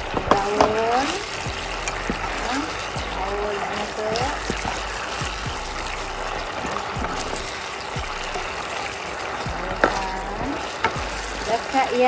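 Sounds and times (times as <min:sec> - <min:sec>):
sauce bubbling and sizzling in wok: 0:00.0 - 0:12.0
wooden spatula knocking wok: 0:00.0 - 0:12.0.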